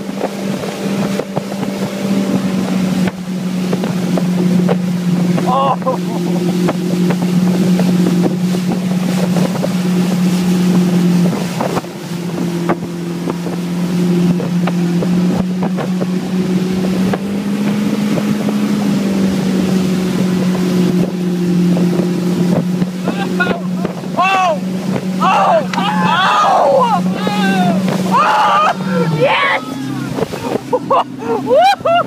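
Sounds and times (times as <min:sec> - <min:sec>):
motorboat engine running: 0:00.0 - 0:32.0
wake churning and splashing: 0:00.0 - 0:32.0
wind buffeting microphone: 0:00.0 - 0:32.0.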